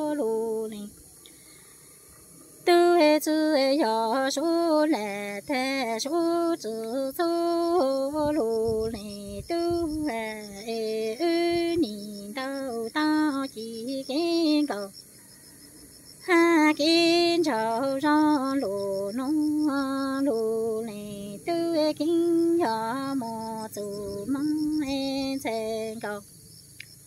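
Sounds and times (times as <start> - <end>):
woman singing unaccompanied: 0.0 - 1.0, 2.6 - 15.2, 16.1 - 26.3.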